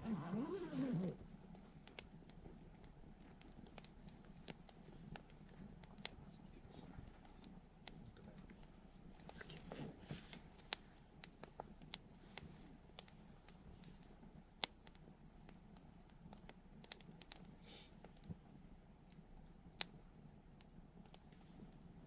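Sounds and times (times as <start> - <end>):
campfire crackling and popping: 0.0 - 22.0
soft steady hiss: 0.0 - 22.0.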